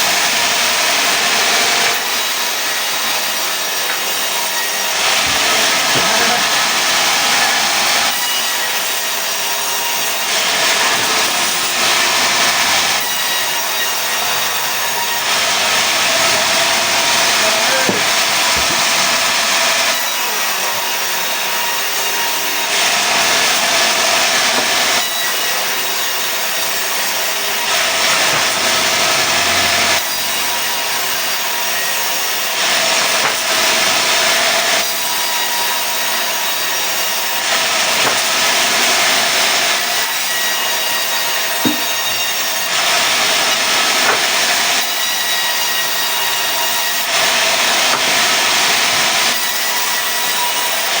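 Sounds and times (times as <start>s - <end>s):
sawmill saw cutting planks: 0.0s - 51.0s.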